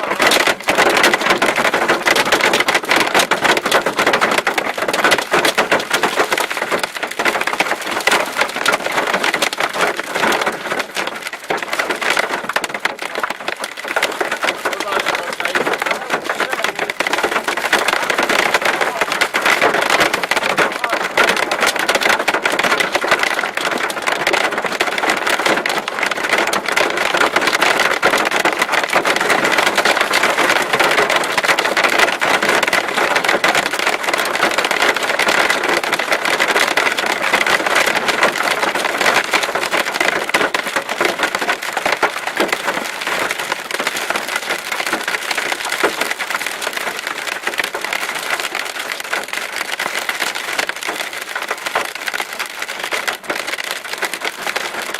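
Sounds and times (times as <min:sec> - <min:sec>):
hail and rain pelting a vehicle: 0:00.0 - 0:54.9.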